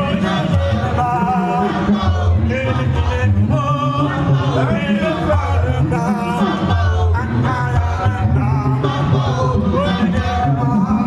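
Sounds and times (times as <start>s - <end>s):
man singing over bass line: 0.0s - 11.0s.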